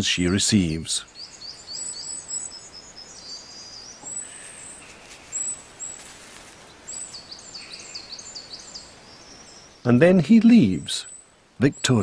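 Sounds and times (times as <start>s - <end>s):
outdoor hiss: 0.0s - 12.0s
small birds chirping: 0.0s - 12.0s.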